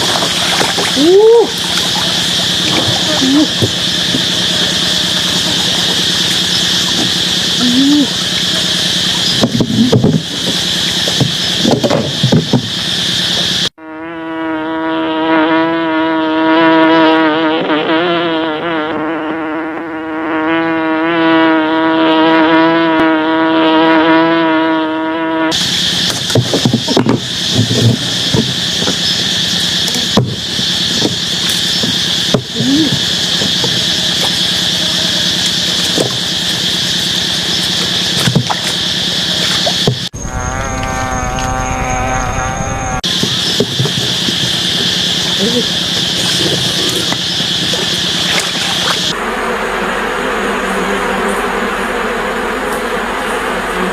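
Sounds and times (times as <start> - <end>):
close buzz of flying insect: 0.0 - 53.9
high insect drone: 0.0 - 53.9.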